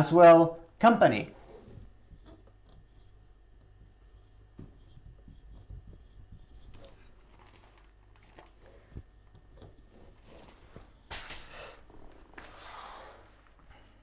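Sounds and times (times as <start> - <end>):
low electrical hum: 0.0 - 14.0
scratching and rustling handling: 1.3 - 14.0.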